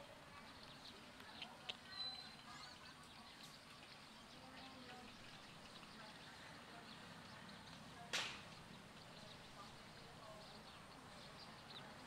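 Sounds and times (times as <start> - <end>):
faint indistinct voices or chirps: 0.0 - 12.0.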